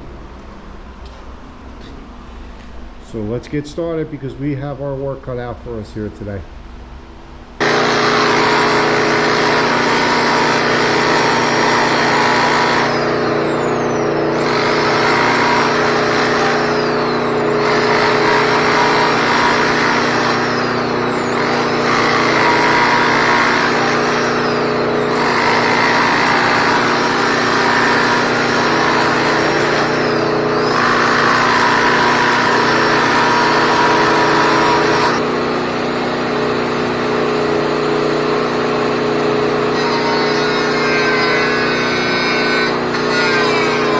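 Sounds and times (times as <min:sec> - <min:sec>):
concrete floor grinder running: 0:07.6 - 0:43.9.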